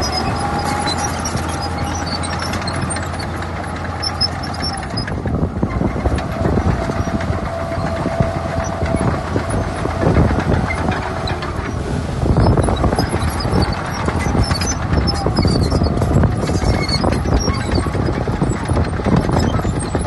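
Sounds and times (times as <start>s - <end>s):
dense rattling: 0.0s - 20.0s
heavy diesel engine running: 0.0s - 20.0s.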